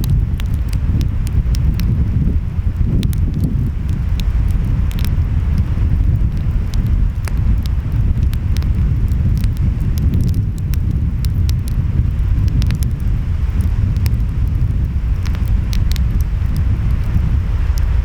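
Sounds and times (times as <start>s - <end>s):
wind: 0.0s - 18.0s
wood fire crackling: 0.0s - 18.0s.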